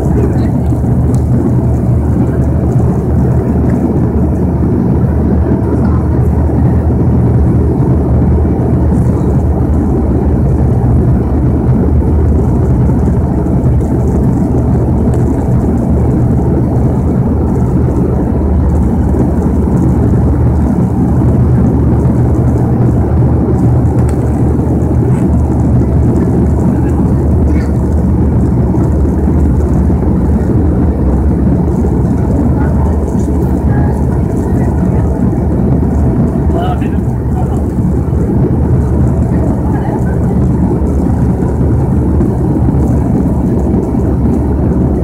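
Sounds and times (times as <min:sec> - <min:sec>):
propeller and engine drone: 0:00.0 - 0:45.0.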